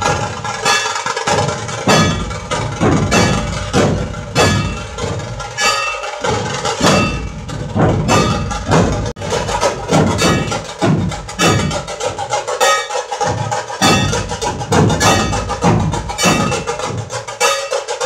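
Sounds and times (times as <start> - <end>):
dhol drums beaten with sticks: 0.0 - 18.0
tasha drums cracking: 0.0 - 18.0.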